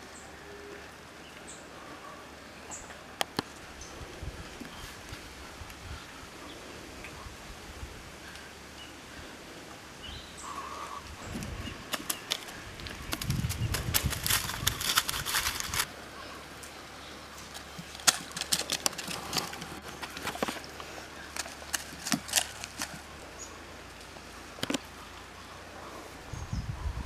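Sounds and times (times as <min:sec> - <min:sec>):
rustling over rocks and dry leaves: 0:03.4 - 0:26.3.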